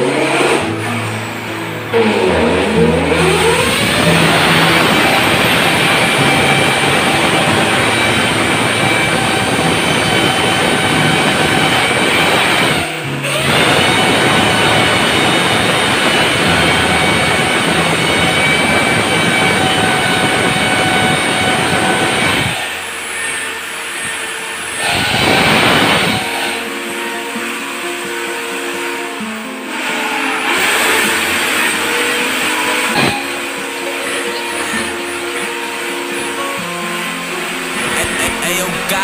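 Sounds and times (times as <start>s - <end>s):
electric drill boring into tile: 0.0s - 39.0s.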